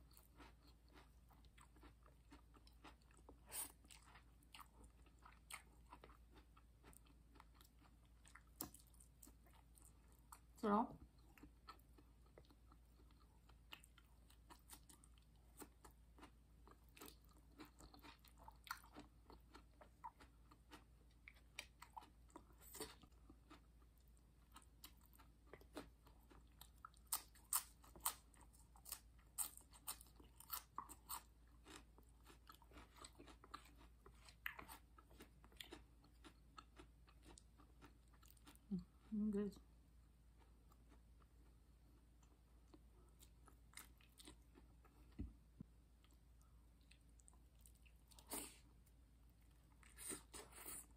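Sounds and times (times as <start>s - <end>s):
person chewing crunchy food: 0.0s - 39.1s, 40.2s - 50.9s.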